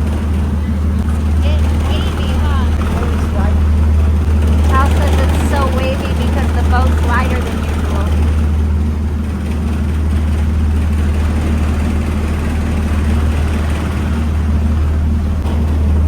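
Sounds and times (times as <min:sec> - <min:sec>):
ferry engines droning: 0:00.0 - 0:16.0
water rushing: 0:00.0 - 0:16.0.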